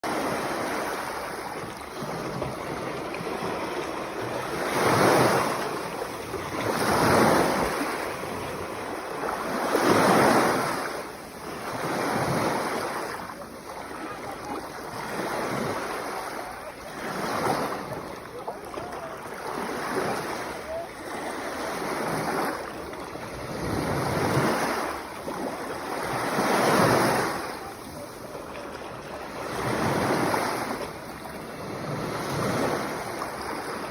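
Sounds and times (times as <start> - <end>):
sea waves breaking on shore: 0.0 - 33.9.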